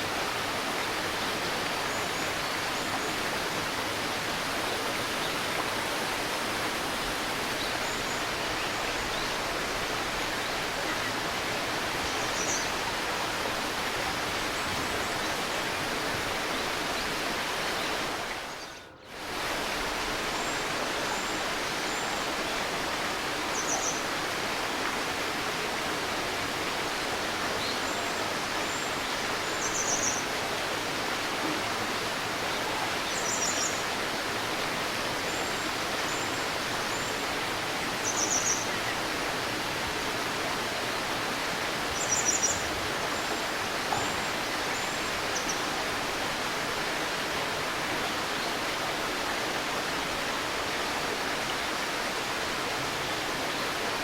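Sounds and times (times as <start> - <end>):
babbling river: 0.0 - 54.0.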